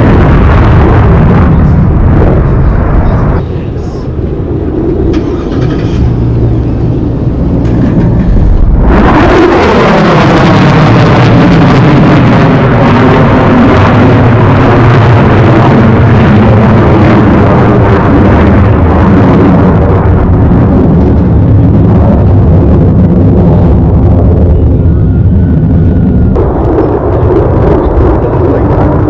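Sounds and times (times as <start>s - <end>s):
loud jet engine passing: 0.0s - 29.0s.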